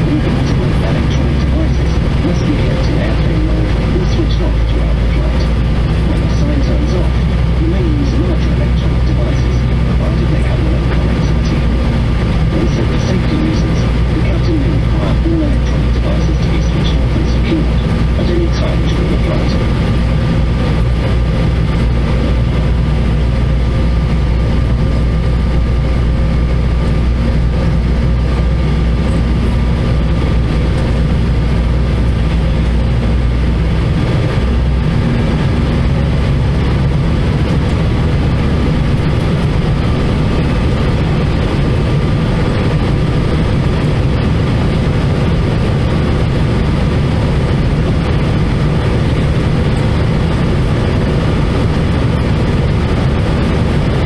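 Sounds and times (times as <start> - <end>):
airplane cabin engine drone: 0.0 - 54.0
steady hum tones: 0.0 - 54.0.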